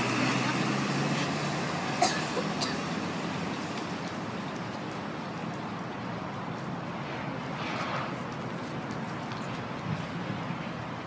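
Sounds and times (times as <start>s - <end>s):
road and traffic hiss: 0.0s - 11.0s
truck engine hum: 0.0s - 11.0s.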